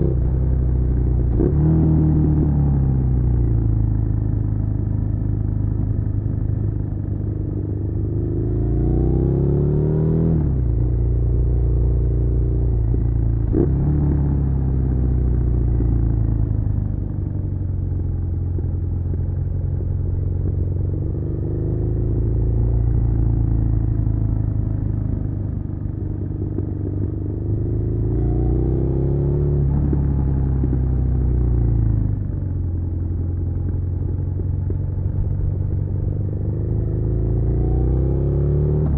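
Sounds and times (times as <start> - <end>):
motorcycle engine revving: 0.0 - 4.5, 5.2 - 38.9.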